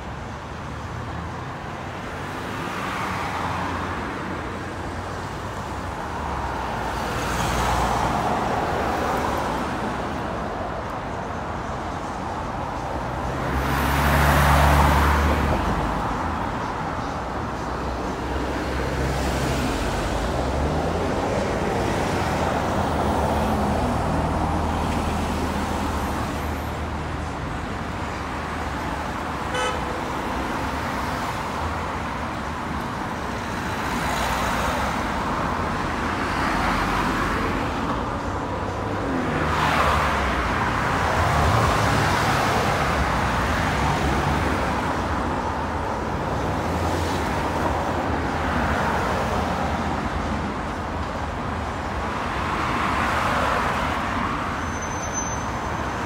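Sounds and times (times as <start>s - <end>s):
cars passing by: 0.0s - 56.0s.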